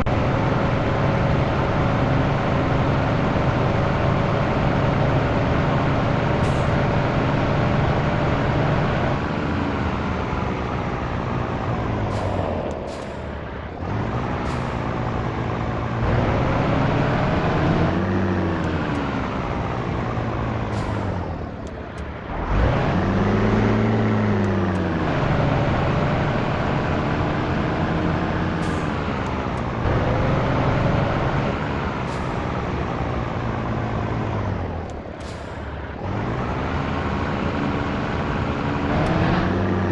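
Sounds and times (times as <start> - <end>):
diesel truck engine pulling: 0.0 - 39.9.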